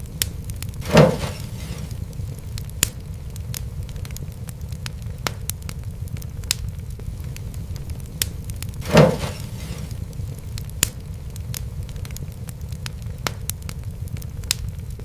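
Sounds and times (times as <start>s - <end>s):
rushing fire flare: 0.0s - 15.0s
wood fire crackling: 0.0s - 15.0s.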